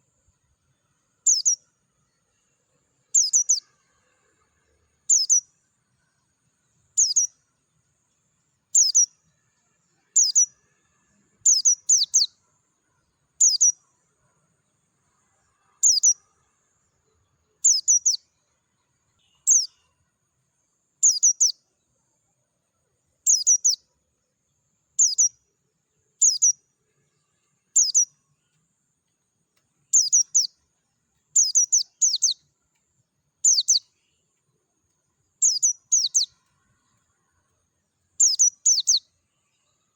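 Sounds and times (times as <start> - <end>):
bird chirping: 0.0 - 4.4, 5.0 - 10.6, 11.3 - 39.9.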